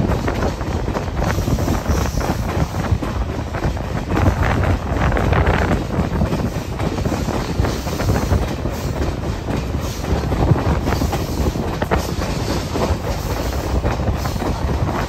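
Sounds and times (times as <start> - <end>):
train wheels rumbling on rail: 0.0 - 15.0
wheels clicking over rail joints: 0.0 - 15.0.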